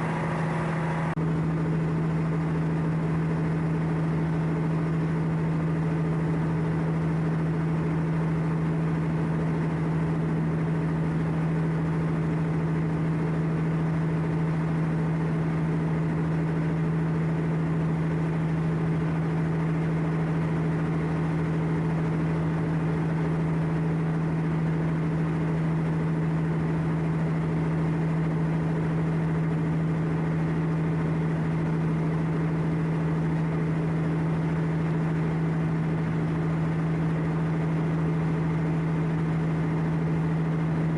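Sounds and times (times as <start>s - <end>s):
ship diesel engine humming: 0.0s - 12.0s, 19.0s - 40.9s.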